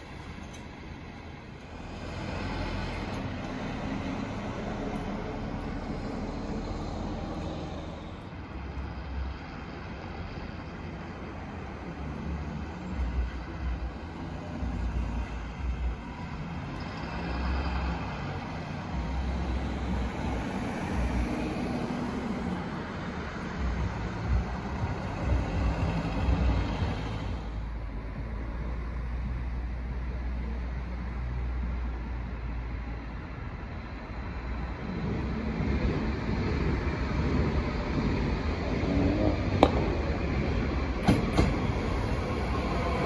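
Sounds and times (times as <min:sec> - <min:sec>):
train rumbling: 0:00.0 - 0:32.3, 0:33.1 - 0:43.0.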